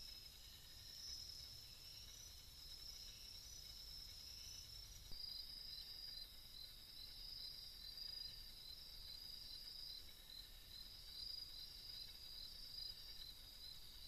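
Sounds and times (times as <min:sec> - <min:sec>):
pulsing insect chirp: 0:00.0 - 0:14.0.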